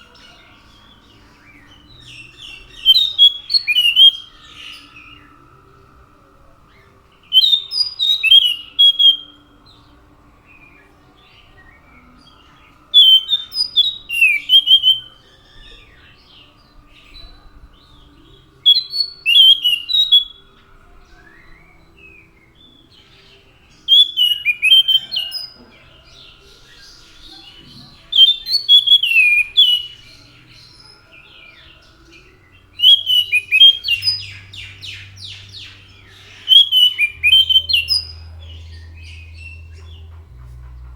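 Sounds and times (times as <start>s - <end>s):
faint steady hum: 0.0s - 40.9s
thrush singing: 0.0s - 40.9s.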